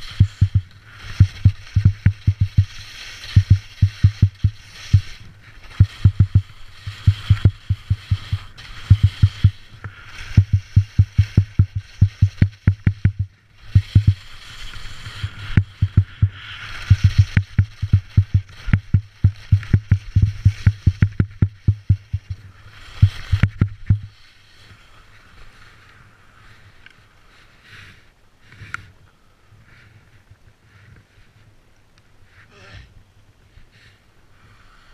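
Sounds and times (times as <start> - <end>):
skis chattering and scraping on snow: 0.0 - 32.9
faint steady background: 0.0 - 34.9.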